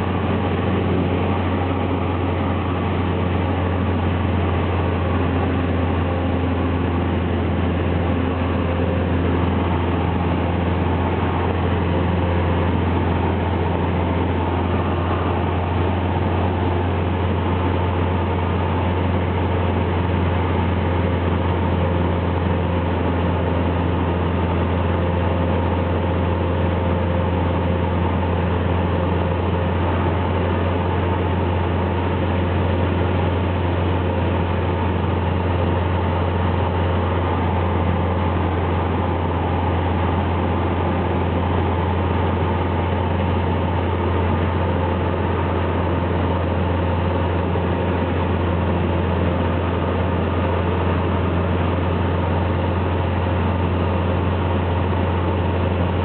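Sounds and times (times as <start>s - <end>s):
airplane engine drone in cabin: 0.0s - 56.0s.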